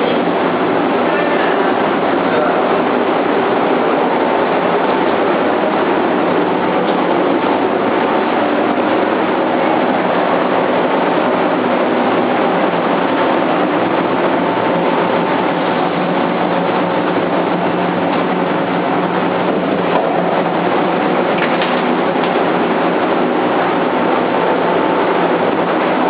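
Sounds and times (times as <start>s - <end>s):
faint steady whine: 0.0s - 26.0s
roasting machine running: 0.0s - 26.0s.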